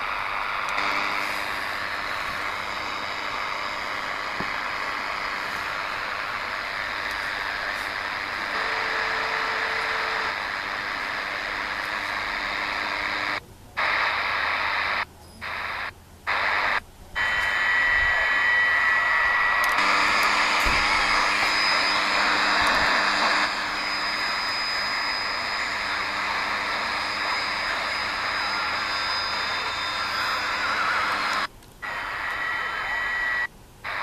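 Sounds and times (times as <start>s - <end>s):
faint steady tones: 0.0s - 34.0s
radio static hiss: 0.0s - 34.0s.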